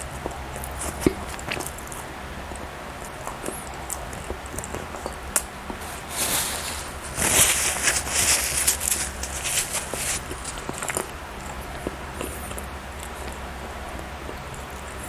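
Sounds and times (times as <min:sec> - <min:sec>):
chewing bread: 0:00.0 - 0:15.0
crackly rustling: 0:00.0 - 0:15.0.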